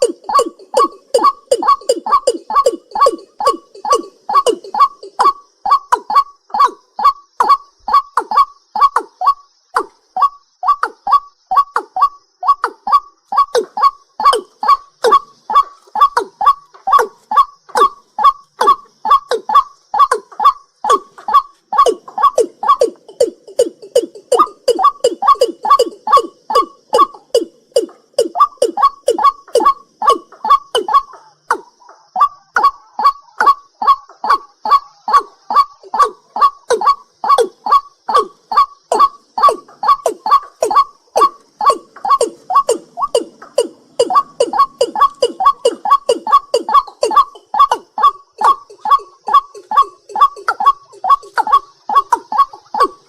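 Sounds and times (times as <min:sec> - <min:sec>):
high insect trill: 0:00.0 - 0:53.0
night bird calling: 0:00.0 - 0:53.0.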